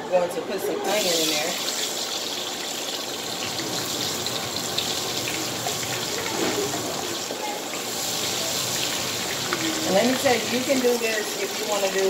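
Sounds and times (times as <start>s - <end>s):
onion sizzling in hot oil: 0.8s - 12.0s.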